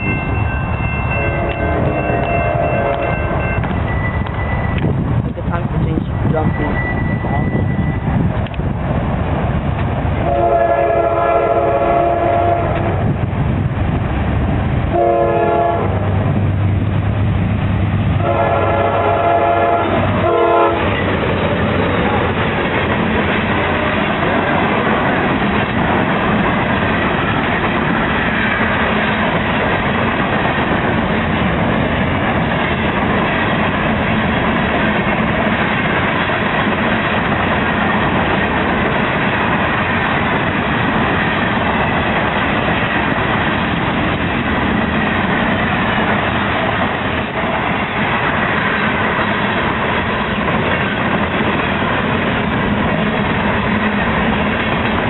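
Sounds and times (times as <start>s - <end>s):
freight train rumbling and rattling: 0.0s - 55.0s.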